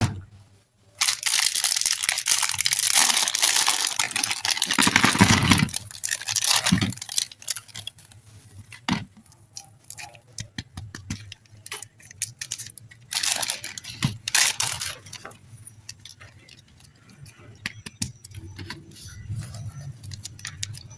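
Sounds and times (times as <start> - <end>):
plastic wrapper tearing and crinkling: 1.0 - 16.8, 17.6 - 20.9.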